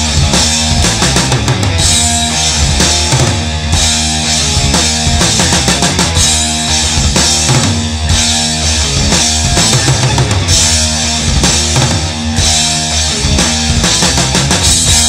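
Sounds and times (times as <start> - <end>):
distorted guitar and bass: 0.0 - 15.0
driving drum kit: 0.0 - 15.0
heavy metal band playing: 0.0 - 15.0.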